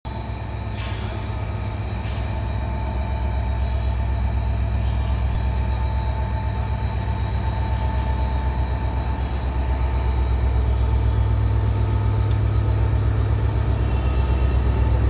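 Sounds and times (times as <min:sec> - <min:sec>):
diesel locomotive engine rumbling: 0:00.0 - 0:15.0
engine whine: 0:00.1 - 0:15.0.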